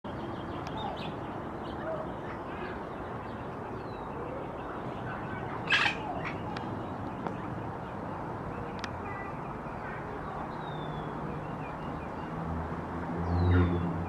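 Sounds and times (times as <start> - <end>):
bird calling: 0.3 - 12.3.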